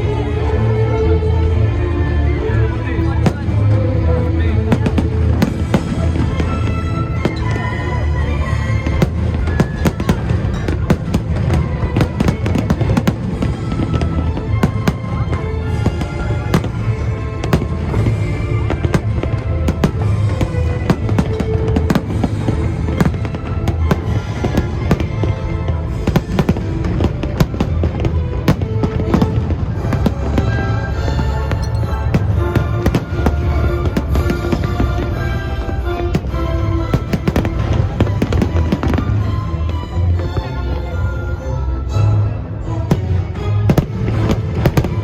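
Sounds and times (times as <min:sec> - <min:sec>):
orchestral music: 0:00.0 - 0:45.0
fireworks bangs and crackling: 0:03.0 - 0:40.6, 0:42.8 - 0:45.0.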